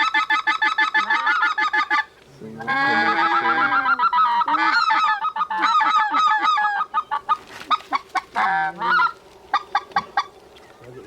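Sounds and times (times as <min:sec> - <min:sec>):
goose call honks and clucks: 0:00.0 - 0:10.4.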